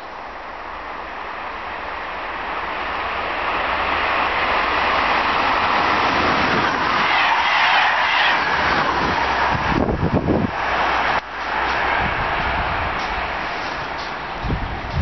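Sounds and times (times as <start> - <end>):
passenger train passing at speed: 0.0 - 15.0.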